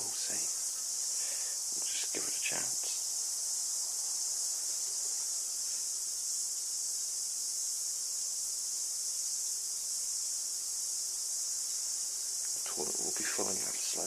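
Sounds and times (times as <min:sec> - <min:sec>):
insect chorus drone: 0:00.0 - 0:14.0.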